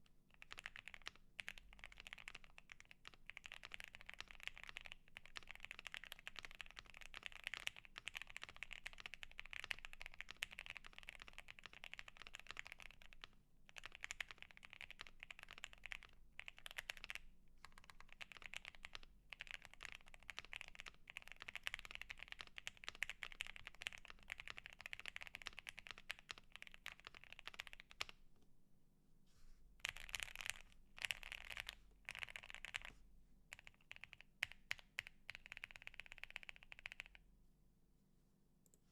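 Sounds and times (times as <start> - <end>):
mechanical keyboard typing: 0.4 - 28.2, 29.8 - 32.9, 33.5 - 37.2.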